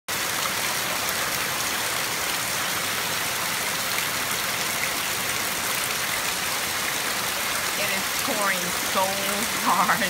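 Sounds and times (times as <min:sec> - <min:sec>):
heavy rain on grass and concrete: 0:00.1 - 0:10.0.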